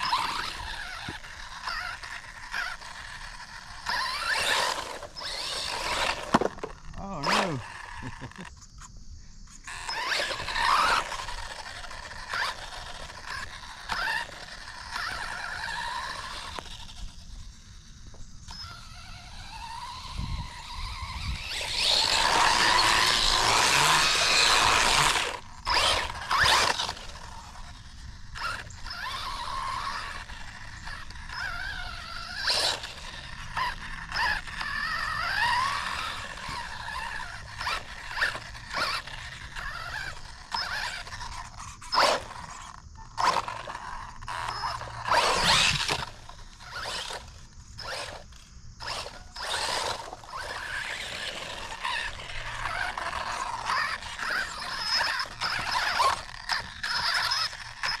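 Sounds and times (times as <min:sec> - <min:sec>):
tyres scraping over forest floor: 0:00.0 - 0:08.5, 0:09.7 - 0:17.3, 0:18.5 - 0:58.0
electric motor whining: 0:00.0 - 0:08.6, 0:09.5 - 0:58.0.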